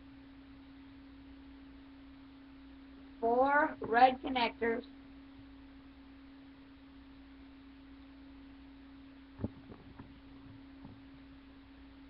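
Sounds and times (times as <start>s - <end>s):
faint hum tone: 0.0s - 12.0s.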